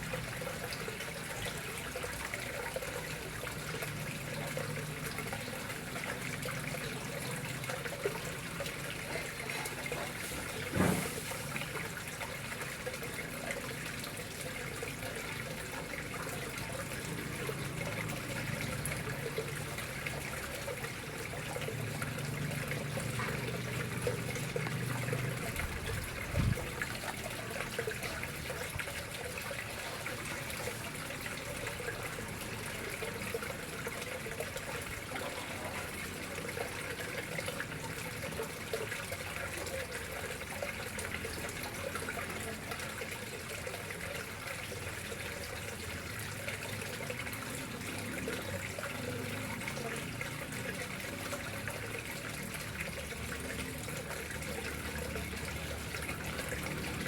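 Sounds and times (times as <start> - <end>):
water trickling into a pond: 0.0 - 57.0.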